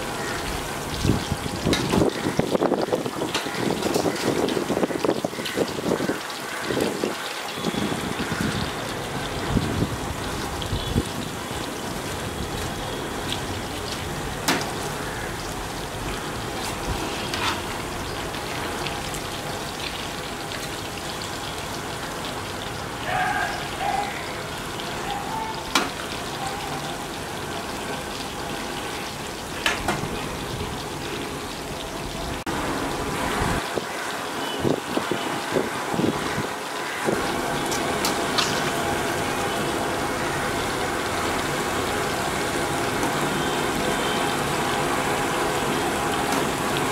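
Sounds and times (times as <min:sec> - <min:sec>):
oil sizzling in a pan: 0:00.0 - 0:46.9.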